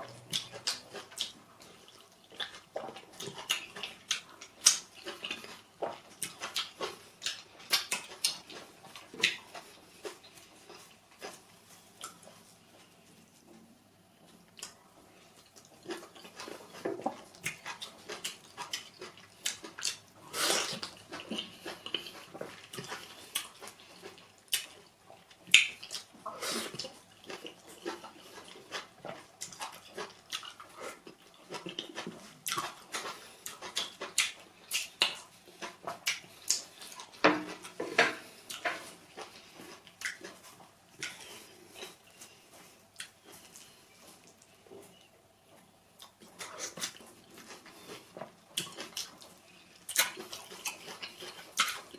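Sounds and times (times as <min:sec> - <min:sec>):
wet chewing and lip smacks: 0:00.1 - 0:12.5, 0:14.4 - 0:14.8, 0:15.4 - 0:51.9.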